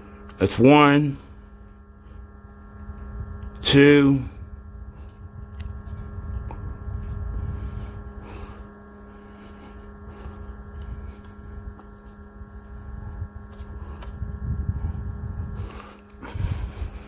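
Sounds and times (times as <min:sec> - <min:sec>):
airflow low rumble: 0:00.0 - 0:17.0
fan motor humming: 0:00.0 - 0:17.0.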